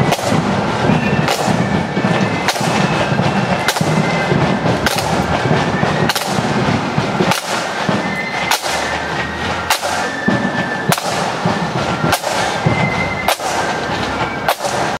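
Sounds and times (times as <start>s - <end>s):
side drums: 0.0s - 15.0s.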